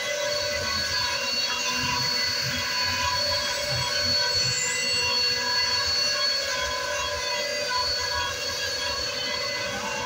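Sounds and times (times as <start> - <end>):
wood router high-pitched whine: 0.0 - 10.0.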